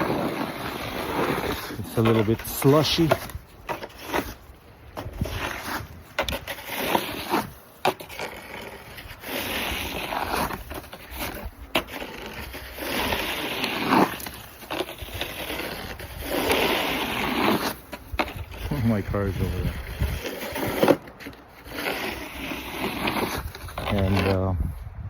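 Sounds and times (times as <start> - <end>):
snow shovel scraping slush: 0.0 - 24.5.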